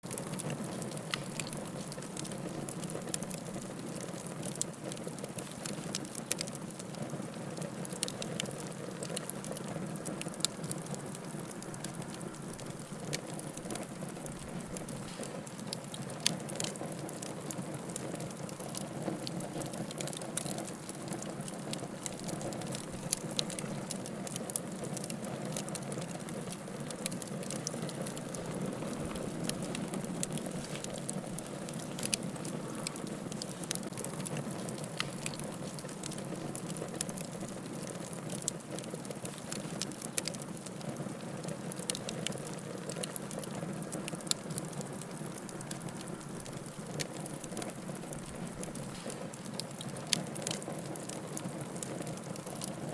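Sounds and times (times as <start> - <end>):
firewood crackling and popping: 0.0 - 52.9
wood fire burning: 0.0 - 52.9.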